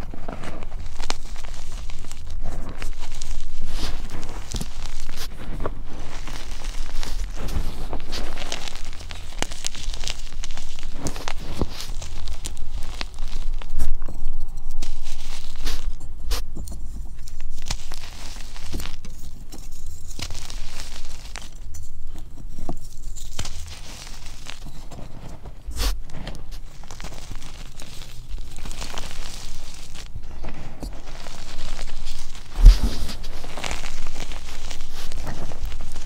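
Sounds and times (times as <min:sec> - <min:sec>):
chalk crunching between hands: 0:00.1 - 0:36.0.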